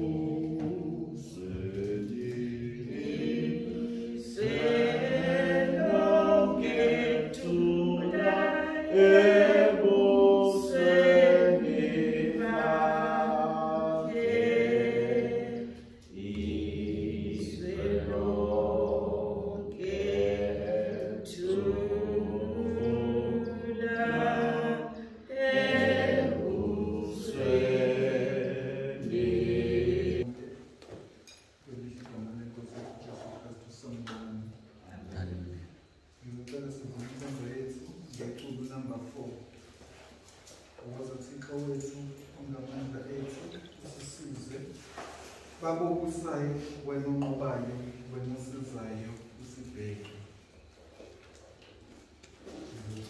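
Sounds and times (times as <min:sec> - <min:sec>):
congregation singing a hymn: 0:00.0 - 0:31.0, 0:34.9 - 0:53.0.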